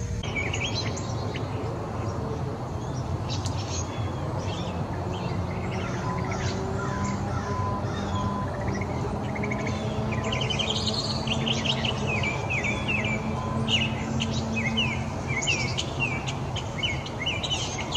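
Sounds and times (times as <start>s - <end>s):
songbirds chirping: 0.0s - 17.9s.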